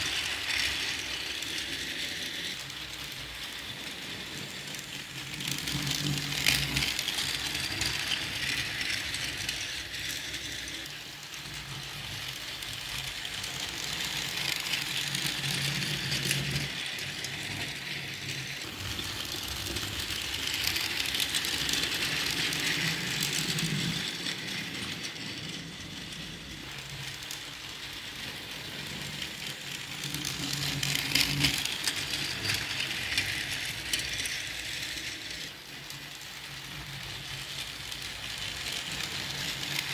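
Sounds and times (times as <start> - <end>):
toy train motor whirring: 0.0 - 39.9
toy train wheels clattering: 0.0 - 39.9.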